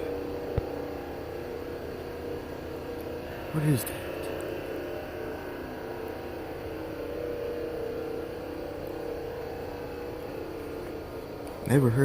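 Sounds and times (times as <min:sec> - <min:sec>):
drone of held tones: 0:00.0 - 0:12.0.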